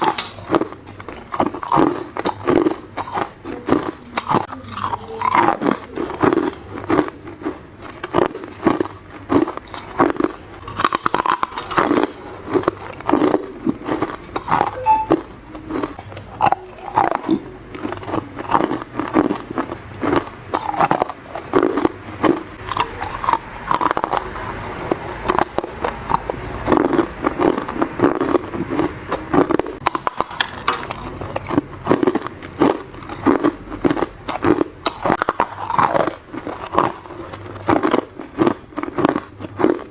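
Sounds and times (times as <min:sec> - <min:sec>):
teeth crunching hard ice: 0:00.0 - 0:39.9.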